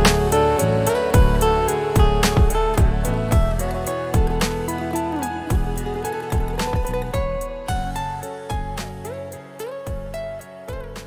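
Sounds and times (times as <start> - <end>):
sustained music tones: 0.0 - 11.0.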